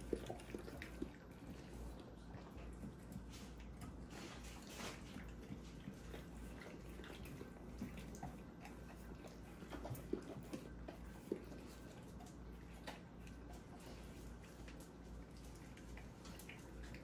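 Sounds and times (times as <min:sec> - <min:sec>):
dogs licking and chewing: 0:00.0 - 0:17.0.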